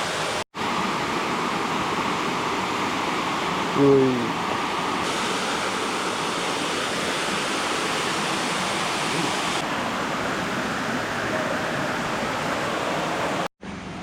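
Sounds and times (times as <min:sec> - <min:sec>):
waterfall rushing: 0:00.0 - 0:13.5.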